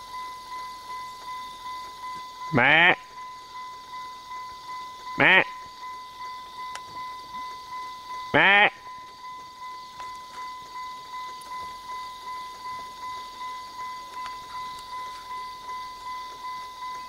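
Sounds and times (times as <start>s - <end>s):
truck warning chime dinging: 0.0s - 17.0s.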